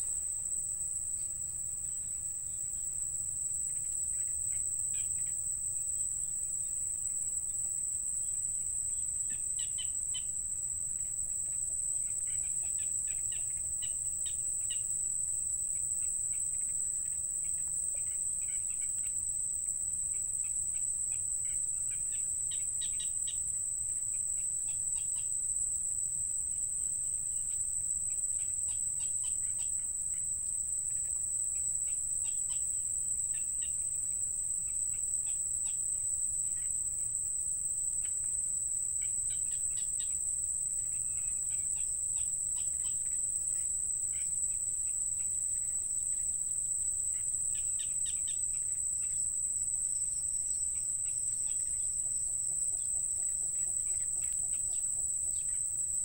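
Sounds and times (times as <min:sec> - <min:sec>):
high-pitched insect trill: 0:00.0 - 0:56.0.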